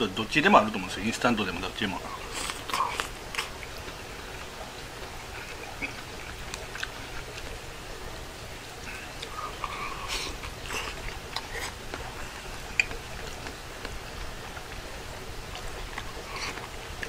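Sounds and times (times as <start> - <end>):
chewing and mouth noises: 1.9 - 17.0.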